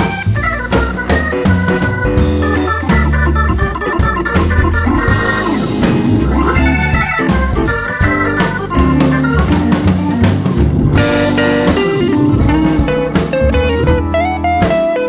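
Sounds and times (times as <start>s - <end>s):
bluesy guitar melody: 0.0s - 15.0s
drums: 0.0s - 15.0s.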